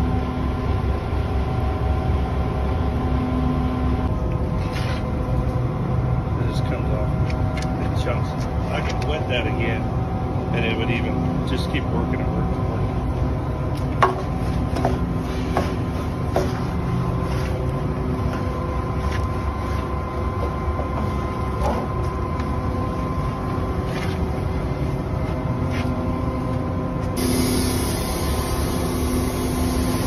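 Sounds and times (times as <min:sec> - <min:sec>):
concrete mixer truck rumbling: 0:00.0 - 0:30.0.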